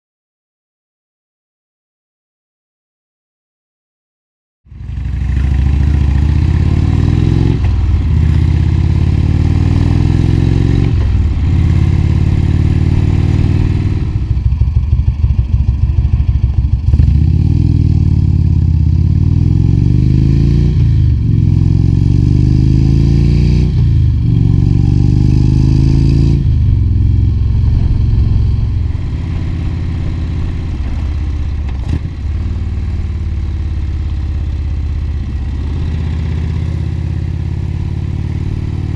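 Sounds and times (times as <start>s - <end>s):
motorcycle accelerating through gears: 4.7s - 38.9s.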